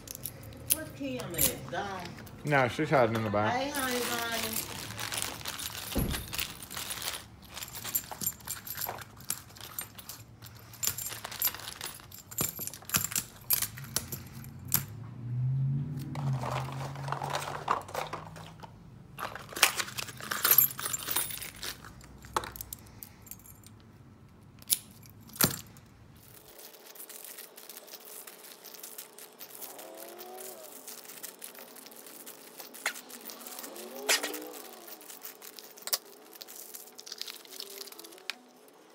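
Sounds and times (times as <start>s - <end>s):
plastic bags crinkling: 0.0s - 13.5s, 16.2s - 23.0s, 26.2s - 38.9s
keys and lock cylinders clinking: 0.0s - 15.1s, 19.2s - 38.9s.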